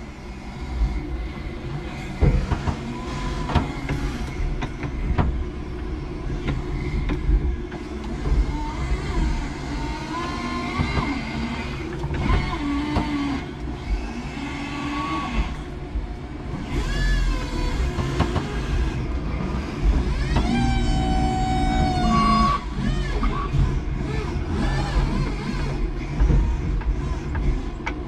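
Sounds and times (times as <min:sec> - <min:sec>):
forklift electric motors whining: 0:00.0 - 0:28.0.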